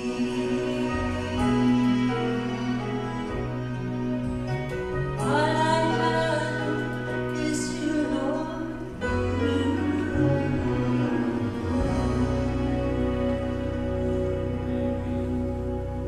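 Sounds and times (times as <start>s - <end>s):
instrumental accompaniment: 0.0s - 16.0s
person singing: 0.0s - 16.0s.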